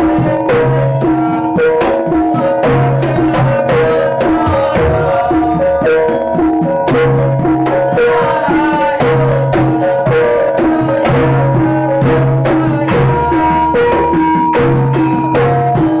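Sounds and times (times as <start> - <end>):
hand drum strokes: 0.0 - 16.0
ringing gong and metallophone: 0.0 - 16.0.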